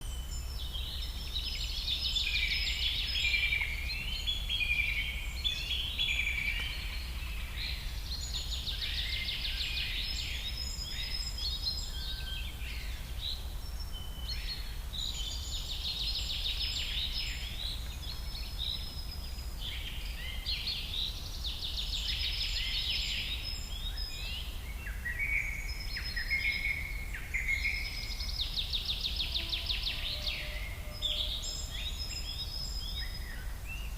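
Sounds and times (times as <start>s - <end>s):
songbird singing trills: 0.0s - 33.9s.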